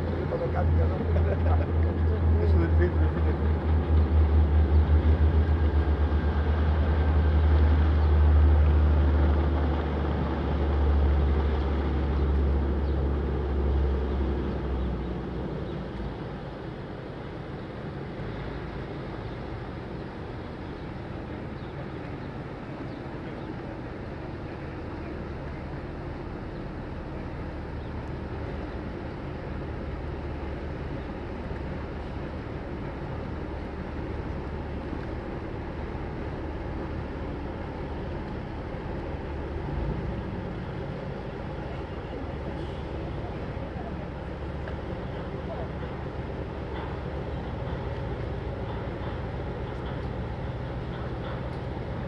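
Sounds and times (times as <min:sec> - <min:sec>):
boat engine drone: 0:00.0 - 0:52.0
water wash: 0:00.0 - 0:52.0.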